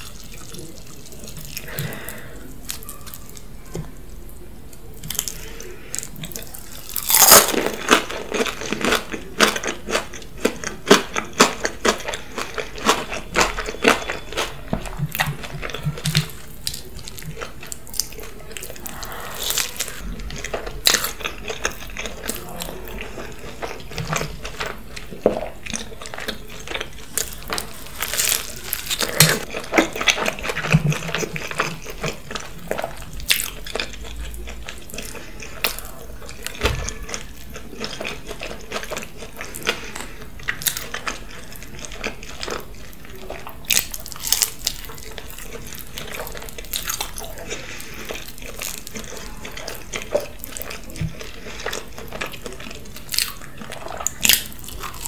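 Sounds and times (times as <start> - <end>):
crunchy bites and chewing: 5.0 - 55.0.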